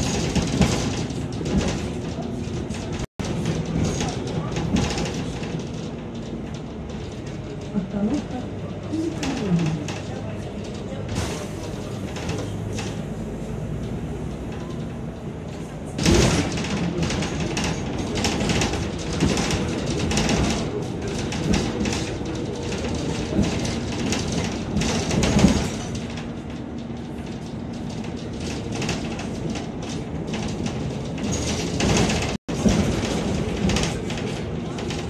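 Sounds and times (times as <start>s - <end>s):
bus engine and road noise: 0.0s - 35.0s.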